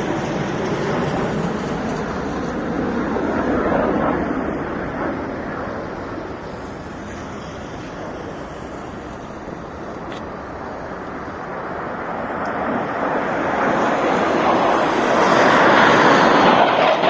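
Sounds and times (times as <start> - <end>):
military jet flying overhead: 0.0 - 17.0.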